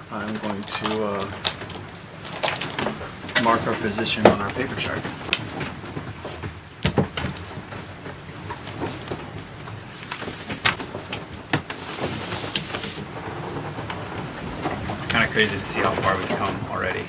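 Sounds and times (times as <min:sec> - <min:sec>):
low background noise: 0:00.0 - 0:17.0
paper rustling and crinkling: 0:00.1 - 0:16.6.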